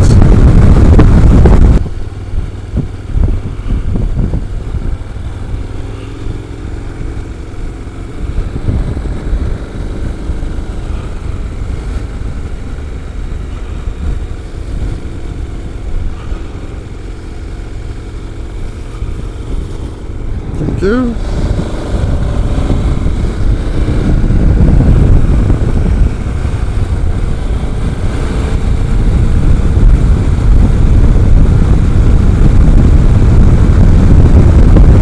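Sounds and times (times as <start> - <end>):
motorcycle engine running: 0.0 - 35.0
wind rushing: 0.0 - 35.0.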